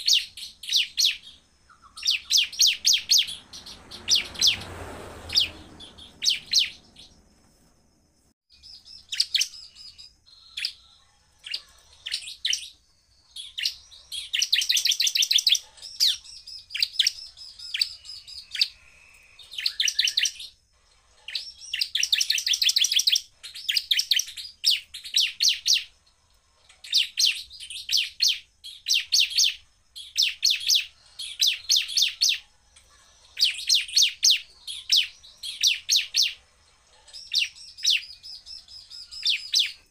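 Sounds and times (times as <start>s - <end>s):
bird singing rapid trills: 0.0s - 7.4s, 8.5s - 39.9s.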